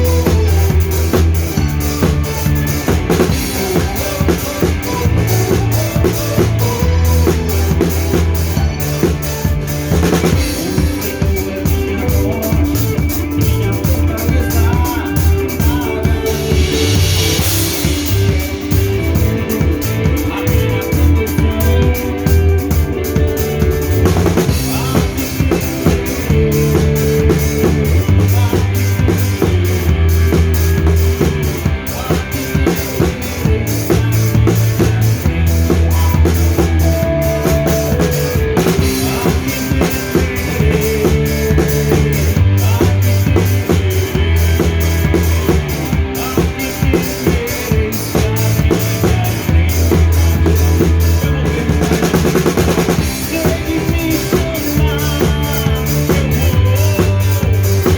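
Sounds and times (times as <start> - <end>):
bass notes: 0.0 - 57.9
drum kit beat: 0.0 - 57.9.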